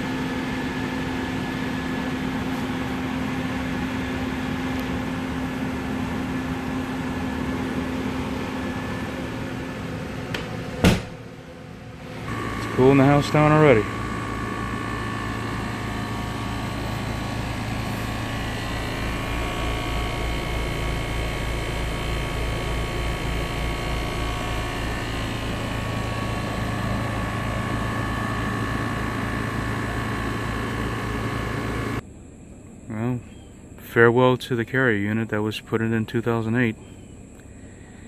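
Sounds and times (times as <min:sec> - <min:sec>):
air conditioner unit humming: 0:00.0 - 0:38.0.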